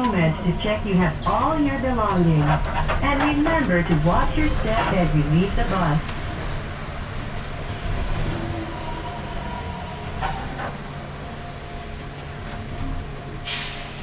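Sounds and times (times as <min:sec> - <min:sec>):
trolleybus cabin hum: 0:00.0 - 0:14.0.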